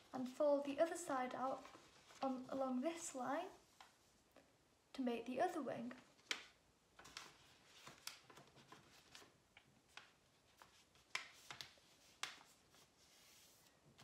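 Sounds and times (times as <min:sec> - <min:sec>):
paper being folded and creased: 0:00.0 - 0:04.1, 0:06.1 - 0:14.0.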